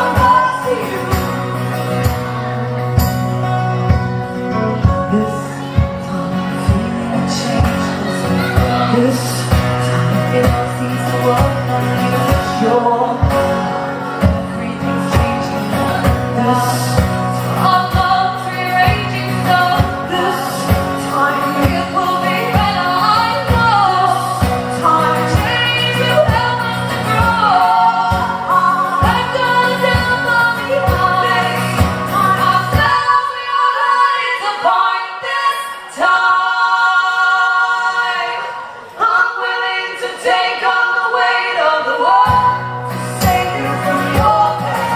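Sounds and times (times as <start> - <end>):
women singing in harmony: 0.0 - 1.9, 5.1 - 44.9.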